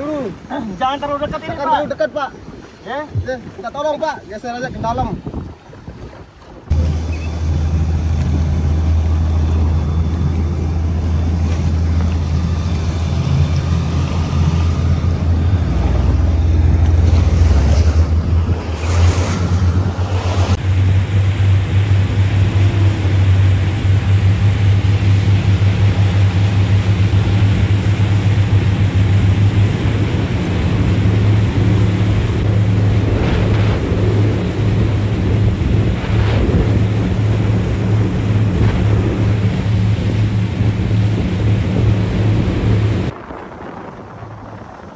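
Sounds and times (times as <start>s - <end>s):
boat engine humming: 0.0s - 44.9s
water rushing: 0.0s - 44.9s
wind buffeting microphone: 0.0s - 44.9s.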